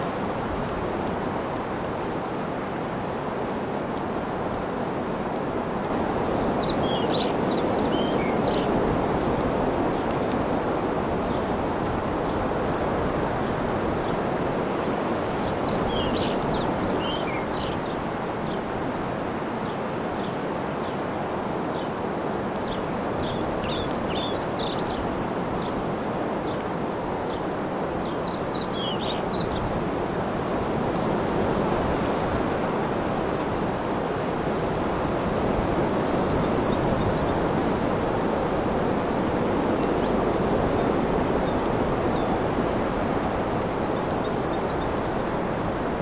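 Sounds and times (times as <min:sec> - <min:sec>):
breeze through palm fronds: 0:00.0 - 0:46.0
surf washing: 0:00.0 - 0:46.0.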